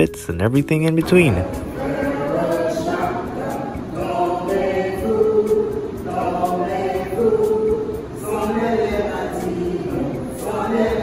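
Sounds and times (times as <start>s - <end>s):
group of voices singing: 1.3s - 11.0s.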